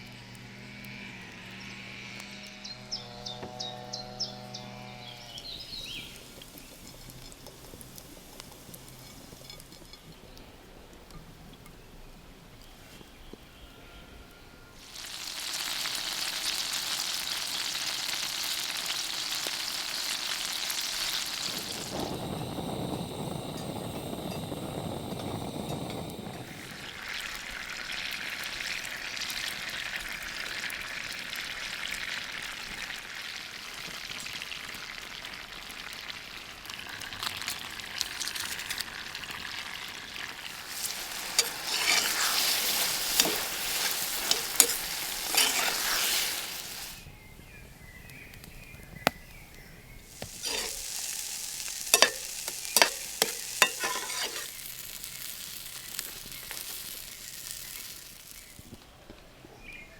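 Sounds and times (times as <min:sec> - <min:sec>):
food sizzling in a frying pan: 0:05.0 - 0:10.4, 0:14.8 - 0:47.1, 0:48.1 - 0:58.8
crackles: 0:05.3 - 0:13.5, 0:14.7 - 0:59.6.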